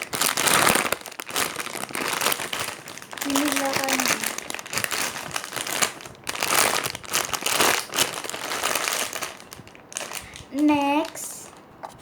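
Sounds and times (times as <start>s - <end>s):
squishy toy crinkling and rustling: 0.0s - 12.0s.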